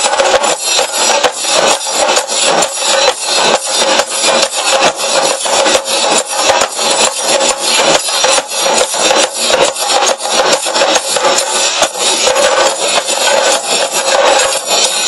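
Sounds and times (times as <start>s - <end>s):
drum ensemble playing fast rhythm: 0.0s - 15.0s.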